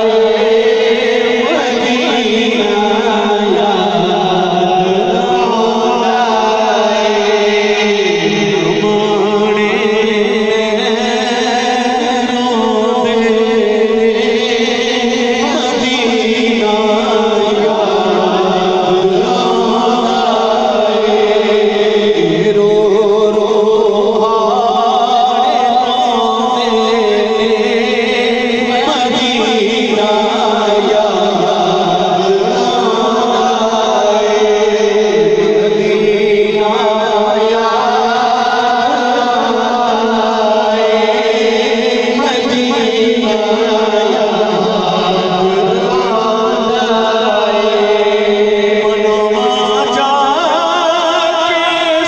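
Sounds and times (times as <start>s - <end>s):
backing voices holding drone: 0.0s - 52.0s
lead male voice singing: 0.0s - 52.0s.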